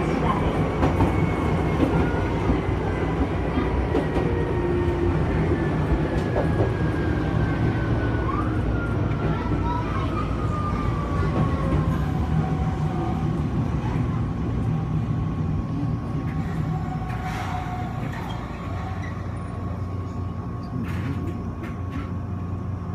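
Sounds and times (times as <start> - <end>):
train rumbling on track: 0.0 - 22.9.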